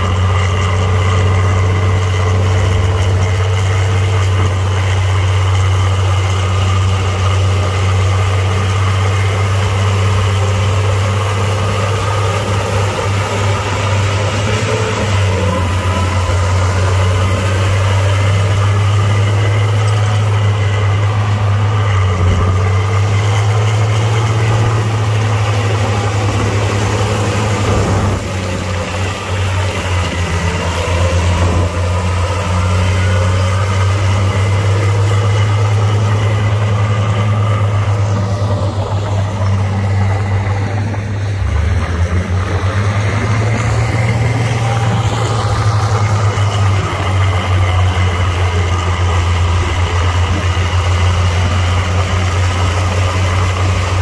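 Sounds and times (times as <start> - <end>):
diesel machinery engine drone: 0.0 - 54.0.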